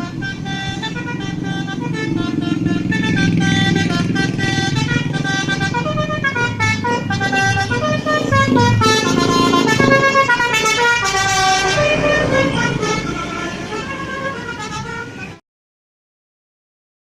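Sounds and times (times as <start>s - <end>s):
bus engine running: 0.0s - 15.4s
bus horn playing a tune: 0.0s - 15.4s.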